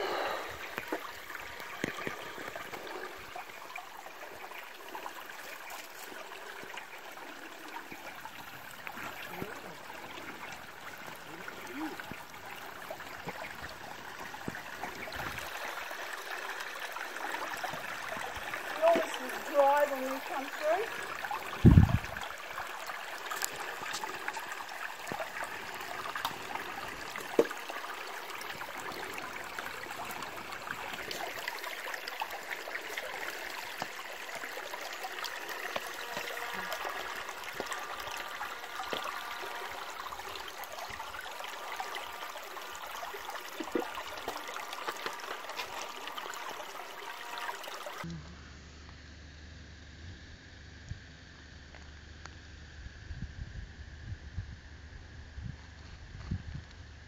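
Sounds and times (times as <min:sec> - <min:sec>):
creek water rushing over rocks: 0:00.0 - 0:48.1.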